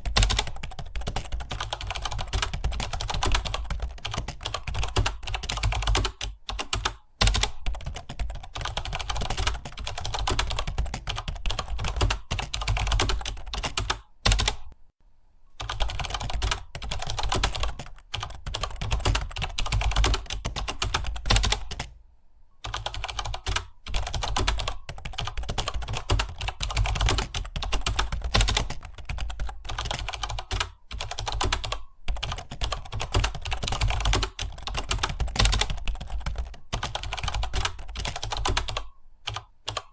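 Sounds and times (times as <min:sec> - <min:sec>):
fast typing on a keyboard: 0:00.0 - 0:14.8, 0:15.6 - 0:22.0, 0:22.6 - 0:39.9.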